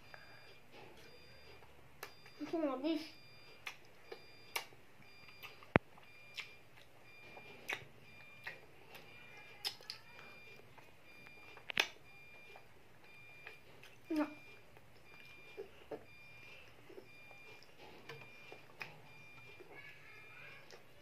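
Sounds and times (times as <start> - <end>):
child chewing and lip smacking: 0.1 - 21.0.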